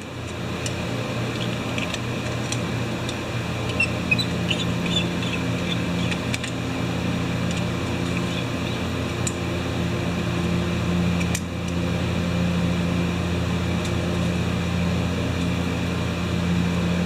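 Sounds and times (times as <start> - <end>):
fan-like hum: 0.0 - 17.0.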